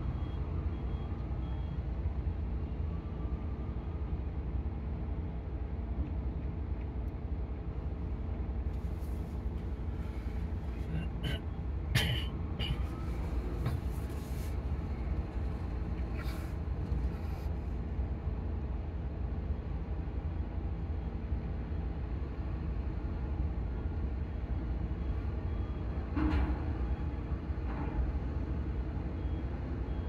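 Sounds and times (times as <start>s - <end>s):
heavy vehicle engines rumbling: 0.0s - 30.0s.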